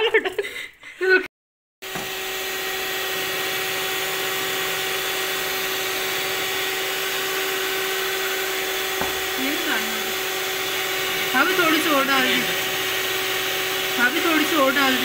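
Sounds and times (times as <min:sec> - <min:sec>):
electric hand mixer whisking batter: 0:01.8 - 0:15.0.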